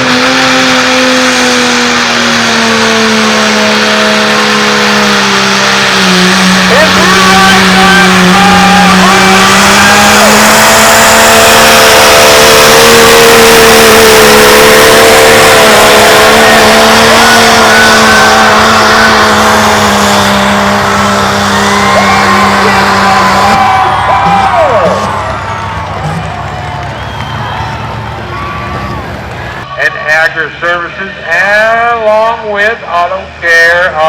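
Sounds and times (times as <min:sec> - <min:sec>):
diesel truck engine at high revs: 0:00.0 - 0:29.6.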